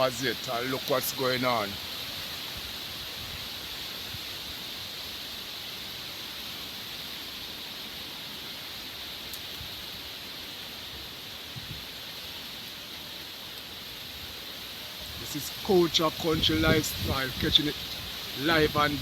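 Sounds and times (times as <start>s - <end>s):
rain and wind hissing: 0.0s - 19.0s.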